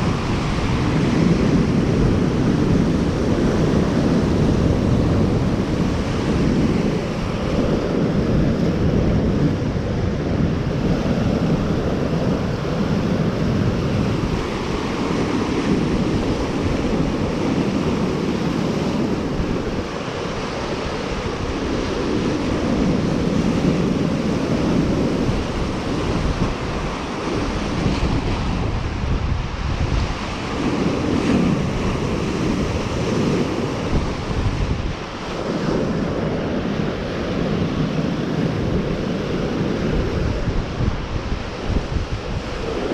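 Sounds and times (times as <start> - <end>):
waves washing onto shore: 0.0 - 42.9
wind on microphone: 0.0 - 42.9.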